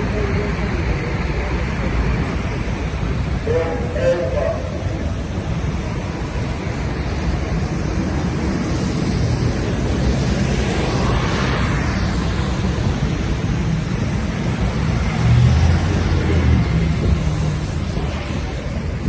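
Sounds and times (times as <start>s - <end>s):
heavy vehicle engine rumble: 0.0s - 19.0s
traffic on wet roads: 0.0s - 19.0s.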